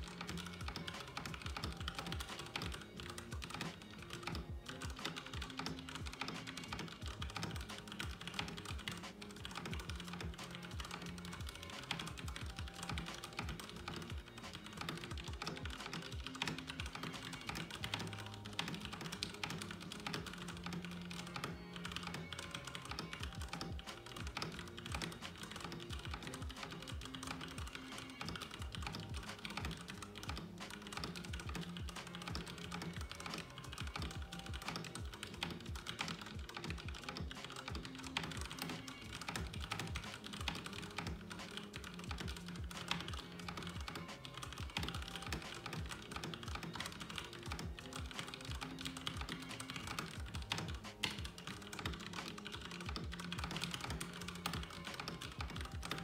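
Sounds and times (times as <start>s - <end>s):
background music: 0.0s - 56.0s
mechanical keyboard typing: 0.0s - 56.0s.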